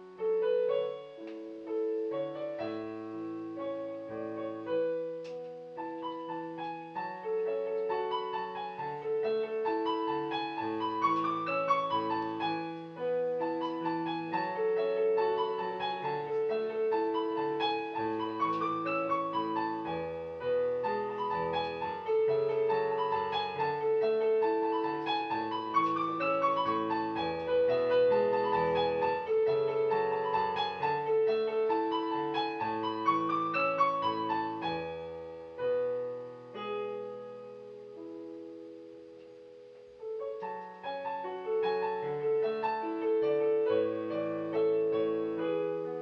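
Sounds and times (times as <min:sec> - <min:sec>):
piano arpeggios: 0:00.0 - 0:46.0.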